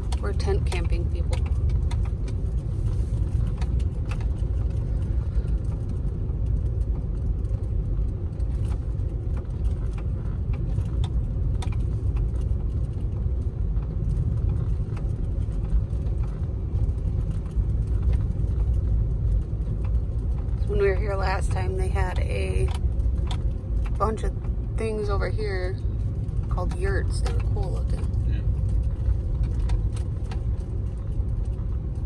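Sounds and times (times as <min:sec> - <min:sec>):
car road and engine rumble: 0:00.0 - 0:32.0
faint clicks and rattles: 0:00.0 - 0:32.0.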